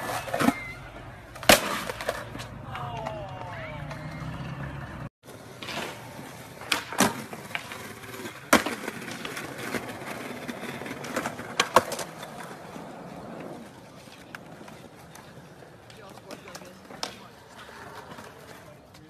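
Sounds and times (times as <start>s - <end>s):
skateboard popping and landing: 0.0s - 4.3s, 5.3s - 19.0s
skateboard wheels rolling on concrete: 0.0s - 19.0s.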